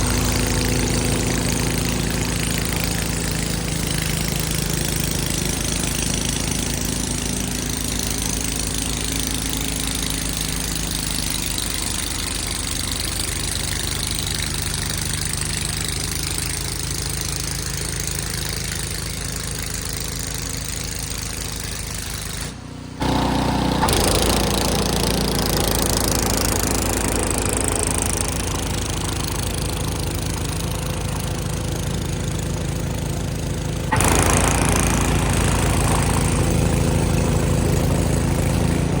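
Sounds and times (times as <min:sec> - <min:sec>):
snow blower engine running: 0:00.0 - 0:39.0.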